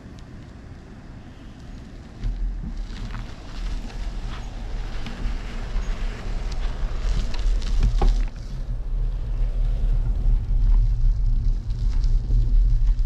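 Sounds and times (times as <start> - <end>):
wind buffeting microphone: 0.7 - 13.0.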